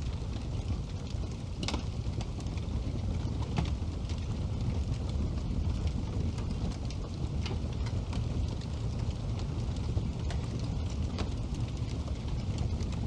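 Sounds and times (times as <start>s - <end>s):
burning wood crackling and popping: 0.0s - 13.0s
low rumble of flames: 0.0s - 13.0s.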